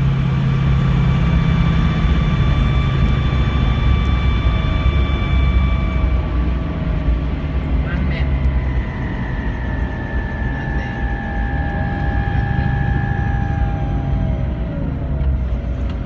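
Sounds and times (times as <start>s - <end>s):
diesel engine rumble with whine: 0.0s - 16.0s.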